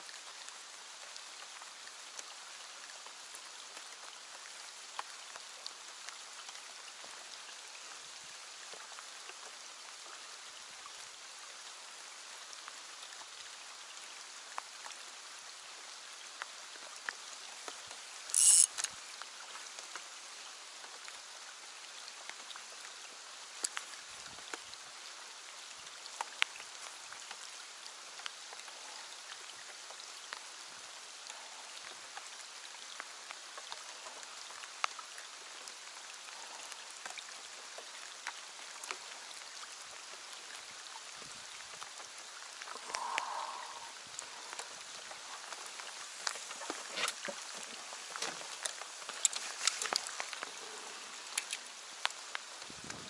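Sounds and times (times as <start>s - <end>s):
rain falling on water: 0.0s - 53.0s.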